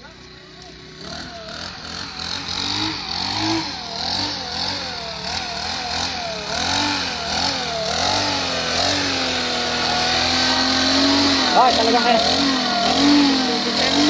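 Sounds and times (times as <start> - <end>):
model boat electric motor whining: 0.9 - 14.0.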